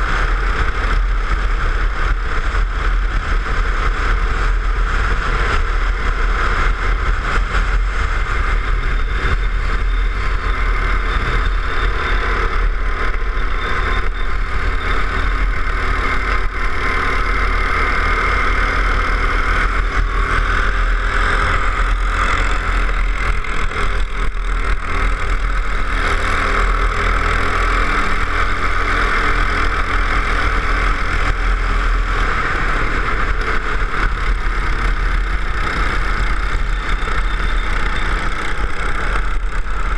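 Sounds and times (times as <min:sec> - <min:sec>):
go-kart engine running: 0:00.0 - 0:39.9
wind rumble on microphone: 0:00.0 - 0:39.9.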